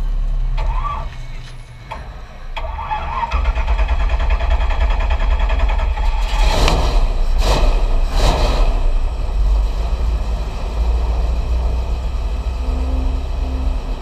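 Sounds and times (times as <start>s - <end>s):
car engine starting and idling: 0.0s - 14.0s.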